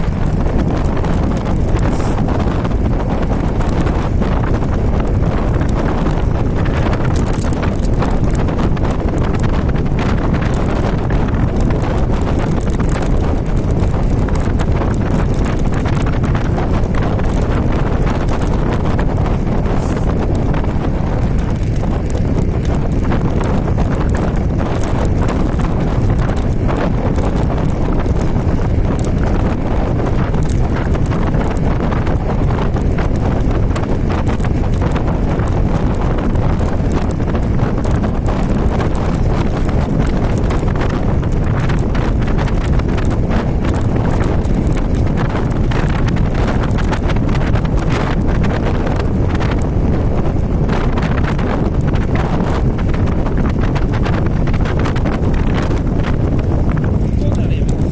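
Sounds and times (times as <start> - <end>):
wind rush on microphone: 0.0 - 57.9.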